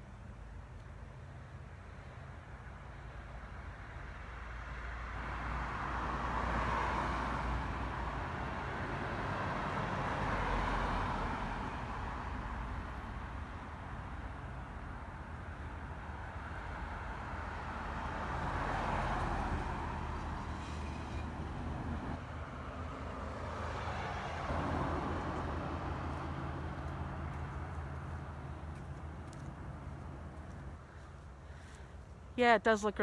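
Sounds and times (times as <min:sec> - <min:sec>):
cars driving past: 0:04.1 - 0:32.9.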